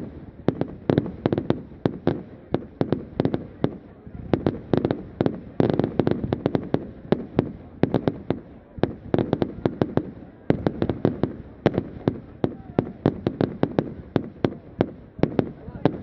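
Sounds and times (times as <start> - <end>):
firework bangs and cracks: 0.0 - 16.0.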